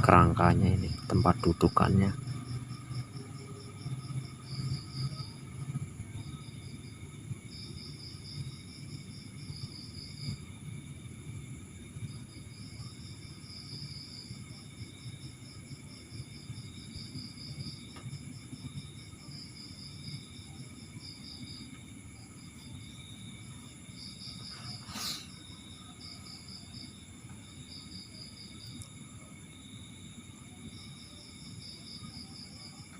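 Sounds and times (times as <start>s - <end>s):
low background rumble: 0.0s - 27.3s
crickets chirping: 0.0s - 32.9s.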